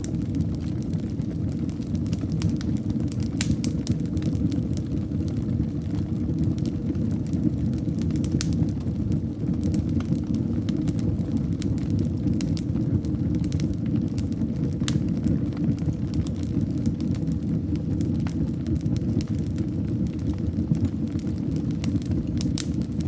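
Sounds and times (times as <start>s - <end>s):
fire crackling and popping: 0.0s - 23.0s
flames rushing: 0.0s - 23.0s.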